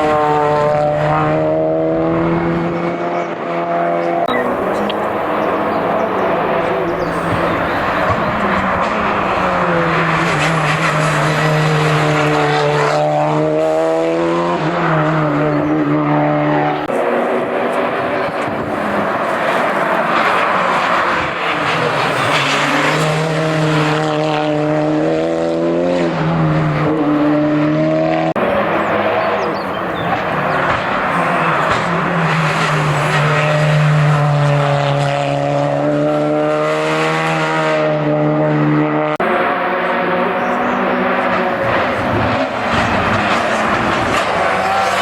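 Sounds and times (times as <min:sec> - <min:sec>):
race car engine revving: 0:00.0 - 0:45.0.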